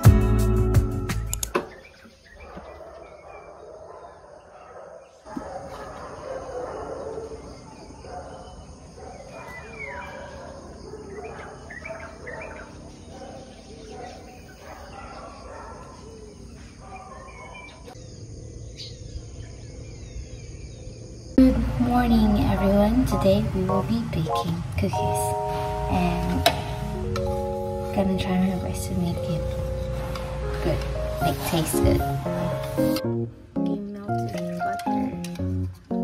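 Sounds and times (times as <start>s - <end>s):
birds chirping and calling: 1.1s - 33.0s.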